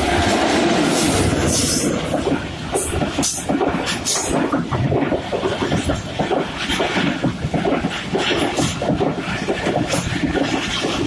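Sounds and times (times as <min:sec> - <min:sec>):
train wheels clattering: 0:00.0 - 0:11.0.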